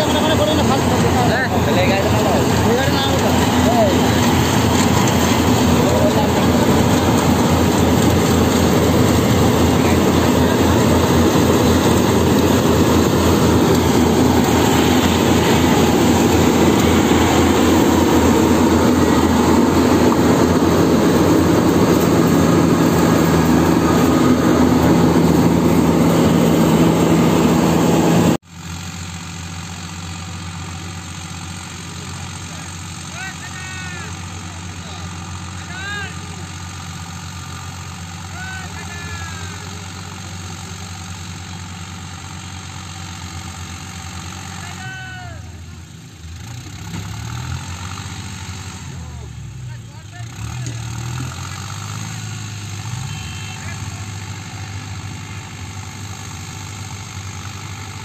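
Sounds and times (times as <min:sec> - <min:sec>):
cutting and threshing machinery: 0:00.0 - 0:45.0, 0:50.1 - 0:58.0
combine harvester engine: 0:00.0 - 0:58.0.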